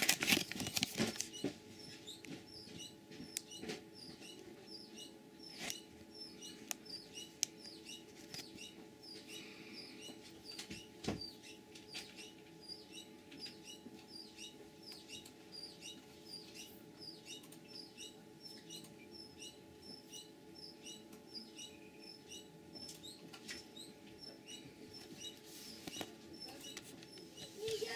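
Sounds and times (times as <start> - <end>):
steady electrical hum: 0.0 - 27.9
small bird chirping: 0.6 - 27.9.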